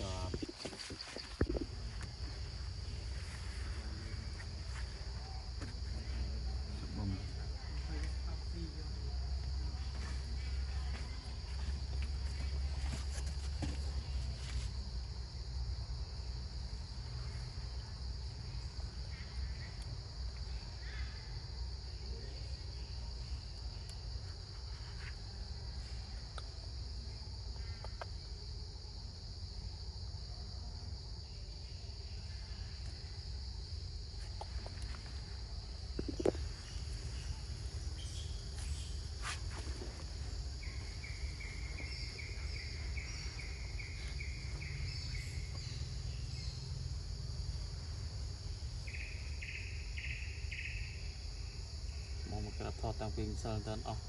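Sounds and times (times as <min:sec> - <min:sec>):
insects droning: 0:00.0 - 0:54.0
pulsing insect call: 0:00.0 - 0:54.0.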